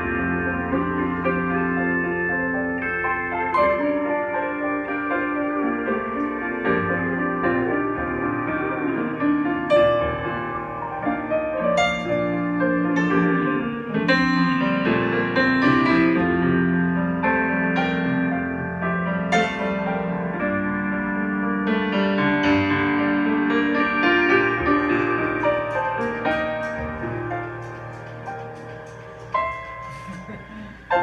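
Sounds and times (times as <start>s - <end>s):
keyboard playing chords: 0.0s - 31.0s.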